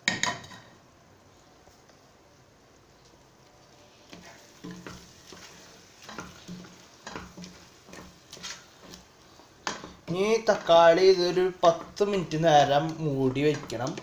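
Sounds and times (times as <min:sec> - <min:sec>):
faint sizzle: 0:00.0 - 0:14.0.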